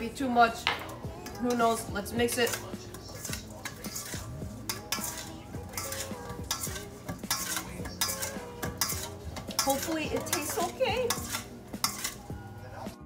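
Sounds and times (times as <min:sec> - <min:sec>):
utensils clinking in steel bowl: 0:00.0 - 0:12.8.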